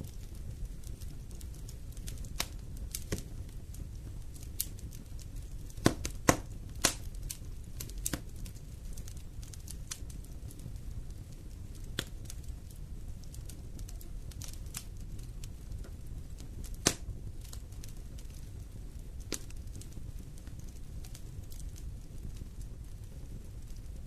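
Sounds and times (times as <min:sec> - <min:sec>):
low rumble of flames: 0:00.0 - 0:24.0
wood fire crackling and popping: 0:00.0 - 0:24.0.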